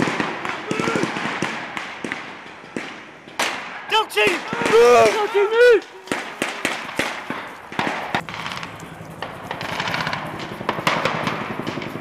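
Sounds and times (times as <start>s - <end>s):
rifles firing blank shots: 0.0s - 12.0s.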